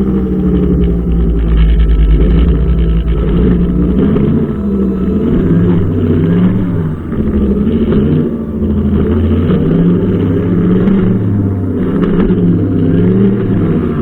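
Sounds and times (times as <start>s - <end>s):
brushcutter engine running: 0.0s - 14.0s.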